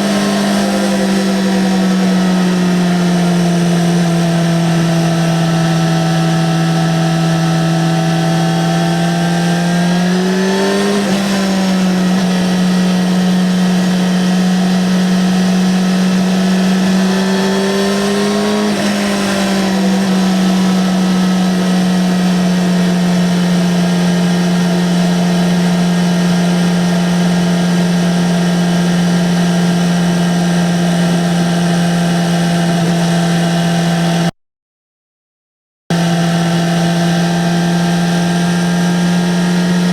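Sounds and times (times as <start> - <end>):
motorcycle engine at high revs: 0.0 - 34.3, 35.9 - 39.9.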